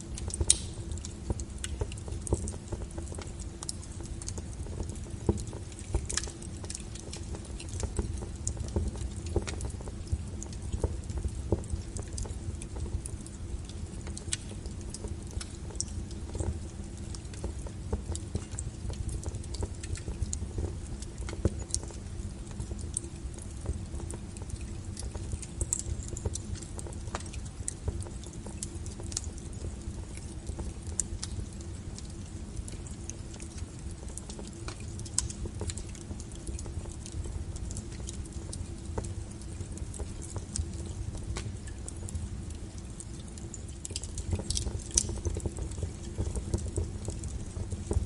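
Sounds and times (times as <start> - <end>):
firewood crackling and popping: 0.0 - 48.0
low rumble of flames: 0.0 - 48.0.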